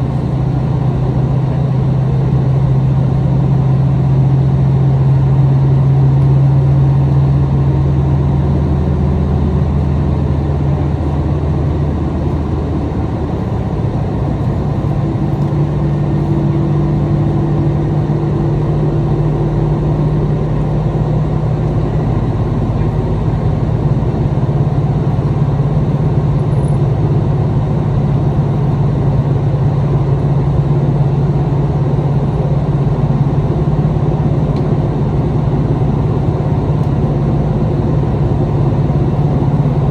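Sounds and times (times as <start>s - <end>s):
diesel engine drone: 0.0s - 39.9s
wheel-on-rail rumble: 0.0s - 39.9s.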